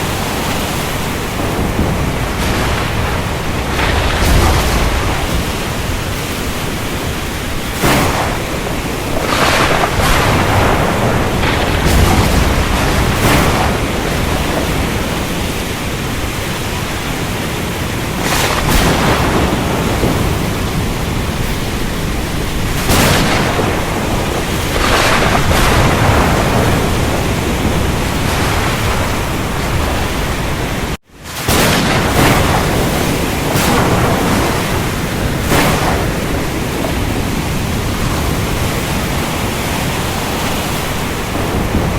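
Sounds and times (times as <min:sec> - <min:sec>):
heavy rain: 0:00.0 - 0:41.9
thunder rumbling: 0:00.0 - 0:41.9.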